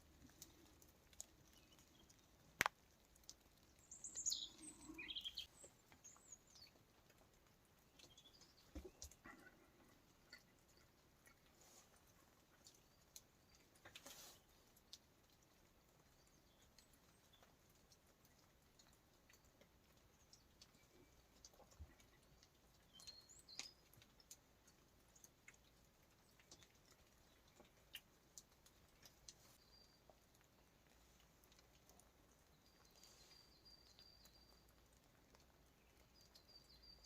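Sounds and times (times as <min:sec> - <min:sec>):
faint ticks and taps: 0:00.0 - 0:37.0.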